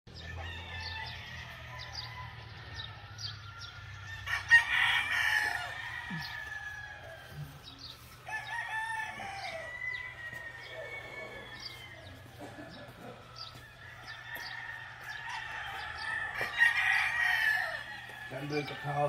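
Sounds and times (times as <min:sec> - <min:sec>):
roosters crowing: 0:00.1 - 0:19.0.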